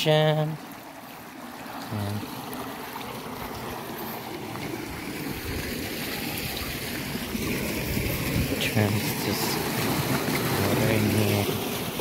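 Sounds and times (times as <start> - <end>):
water rushing along channel: 0.0 - 12.0.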